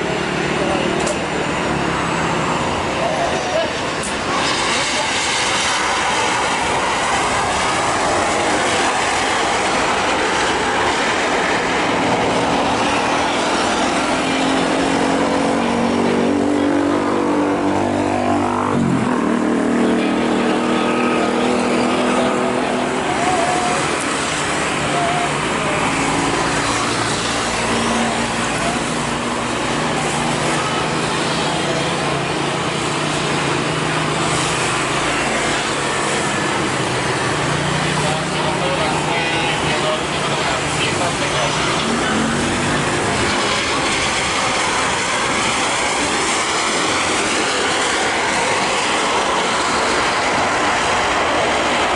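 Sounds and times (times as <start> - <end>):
jet airliner engines passing: 0.0 - 51.9.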